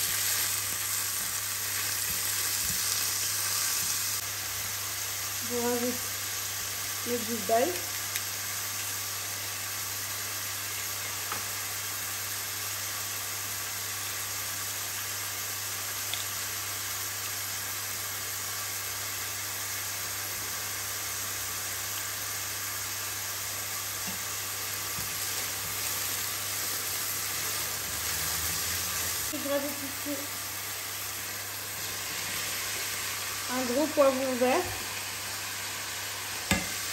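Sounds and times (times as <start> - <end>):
onion and garlic sizzling in oil: 0.0 - 36.9.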